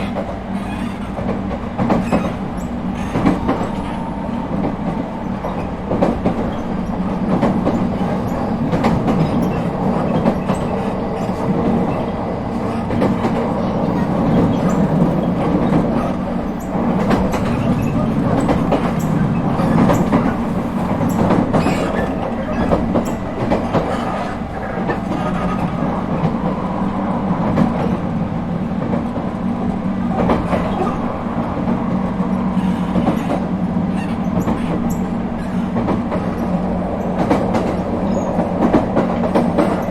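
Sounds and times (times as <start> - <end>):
wheels clicking over rail joints: 0.0 - 26.4, 30.1 - 39.9
wheel-on-rail rumble: 0.0 - 39.9.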